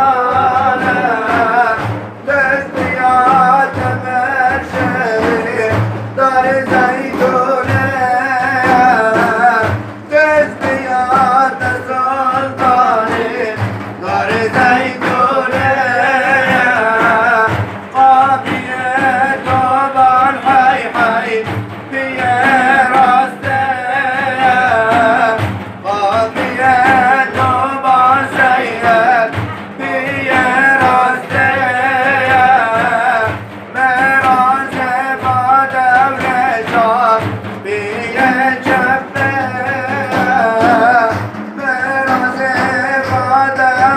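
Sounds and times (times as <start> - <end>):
man singing devotional hymn: 0.0 - 43.9.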